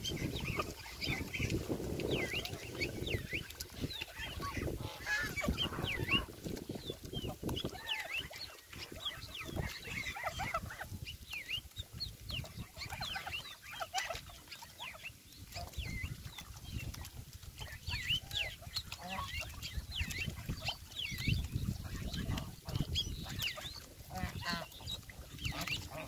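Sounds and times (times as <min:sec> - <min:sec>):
geese and goslings peeping: 0:00.0 - 0:26.0.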